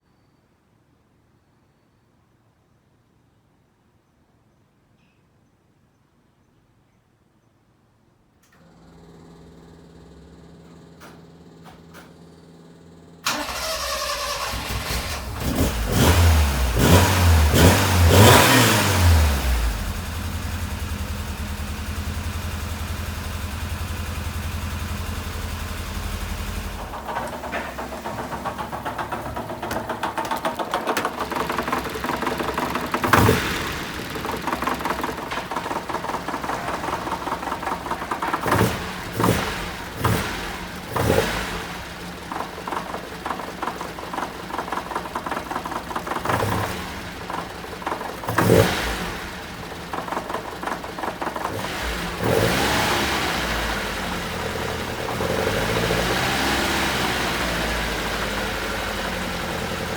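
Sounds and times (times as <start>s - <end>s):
car engine idling and revving: 8.8s - 59.9s.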